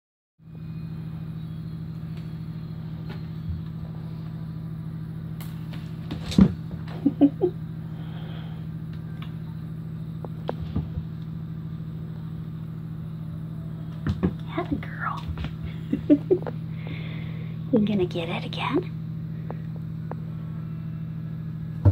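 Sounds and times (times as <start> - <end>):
motor or fan humming: 0.4 - 21.9.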